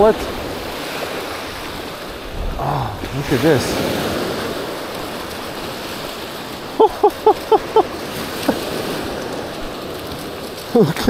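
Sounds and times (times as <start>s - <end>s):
surf washing on beach: 0.0s - 11.0s.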